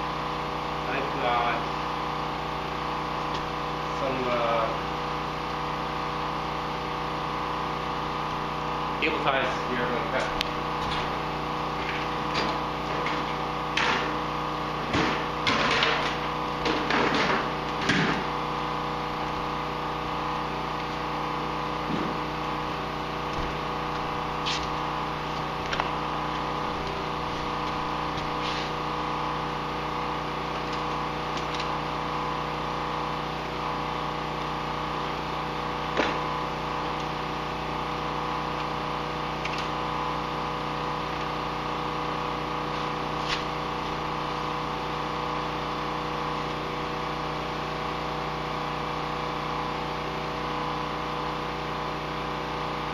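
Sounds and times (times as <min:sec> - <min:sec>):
steady multi-tone hum: 0:00.0 - 0:52.9.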